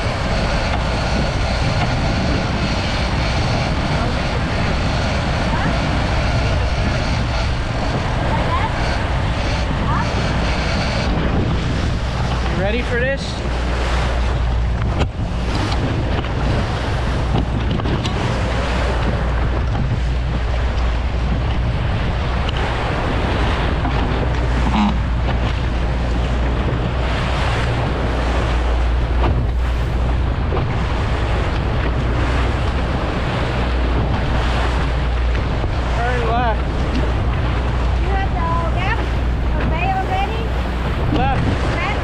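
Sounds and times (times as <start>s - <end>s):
boat engine droning: 0.0s - 42.0s
water rushing past hull: 0.0s - 42.0s
wind buffeting microphone: 0.0s - 42.0s.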